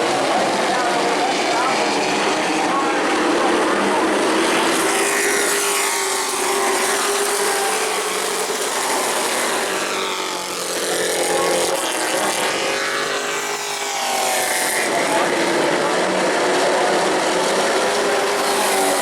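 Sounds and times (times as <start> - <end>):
race truck engines: 0.0 - 19.0.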